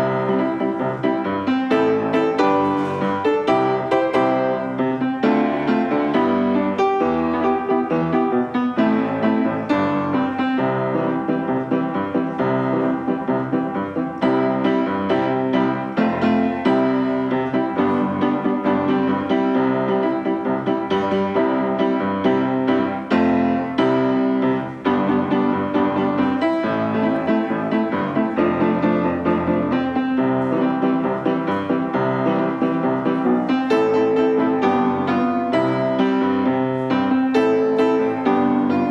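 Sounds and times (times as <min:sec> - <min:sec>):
background piano music: 0:00.0 - 0:38.9.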